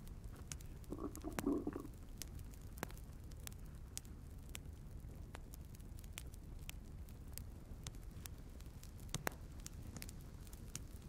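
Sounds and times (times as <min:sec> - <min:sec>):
fire crackling and popping: 0:00.0 - 0:11.0
low rumble of flames: 0:00.0 - 0:11.0.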